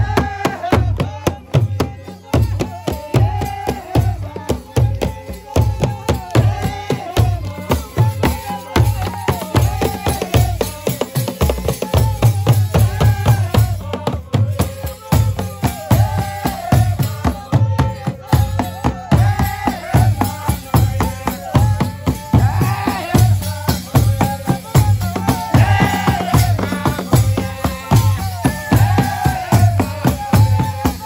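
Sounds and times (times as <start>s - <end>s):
drums beaten with sticks: 0.0s - 31.0s
voices singing: 0.0s - 31.0s.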